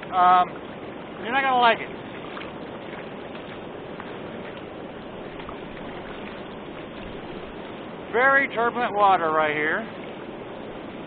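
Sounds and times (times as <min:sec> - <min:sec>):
river water rushing over a ledge: 0:00.0 - 0:11.0.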